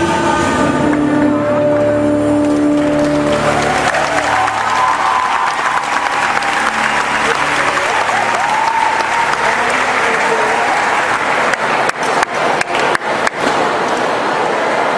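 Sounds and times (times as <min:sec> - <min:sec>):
crowd applauding: 0:02.1 - 0:14.6.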